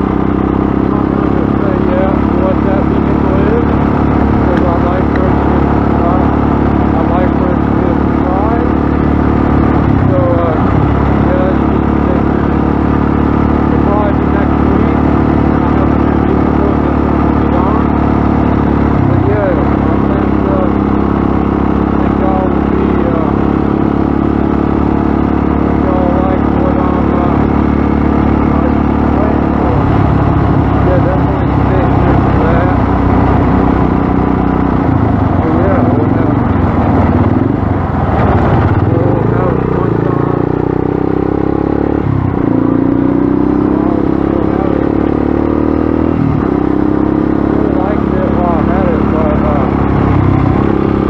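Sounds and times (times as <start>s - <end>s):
dirt bike engine running: 0.0s - 51.0s.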